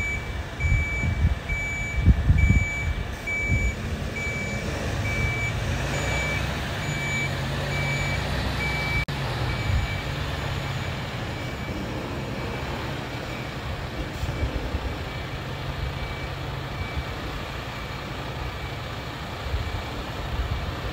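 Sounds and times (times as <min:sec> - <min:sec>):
reversing alarm beeps: 0:00.0 - 0:19.0
diesel engine running: 0:00.0 - 0:20.9.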